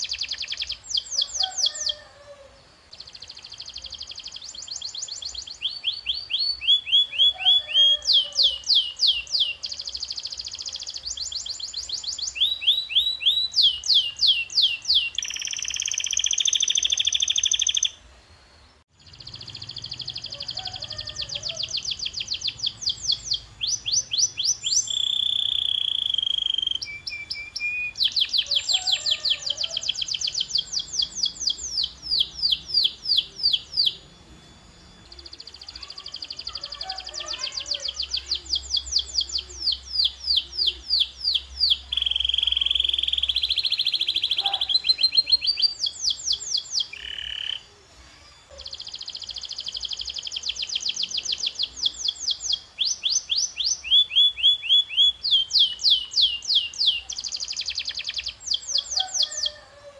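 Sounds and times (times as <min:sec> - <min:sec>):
canary singing trills: 0:00.0 - 0:18.1, 0:18.9 - 0:59.9.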